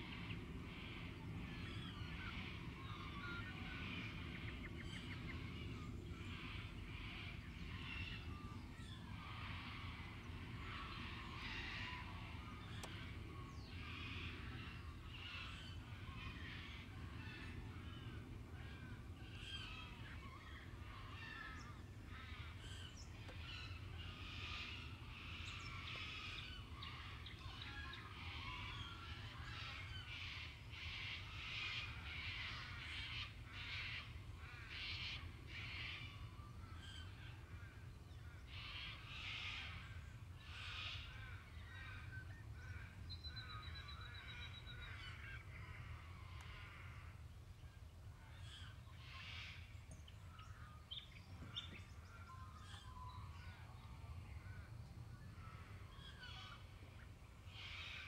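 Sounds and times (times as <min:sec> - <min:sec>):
low steady background rumble: 0:00.0 - 0:58.0
birds harsh calls: 0:00.2 - 0:54.6, 0:55.2 - 0:58.0.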